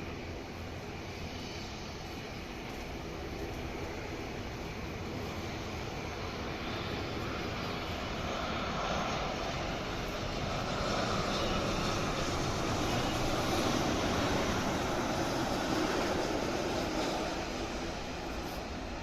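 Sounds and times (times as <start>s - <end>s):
jet engines of airliner: 0.0s - 19.0s.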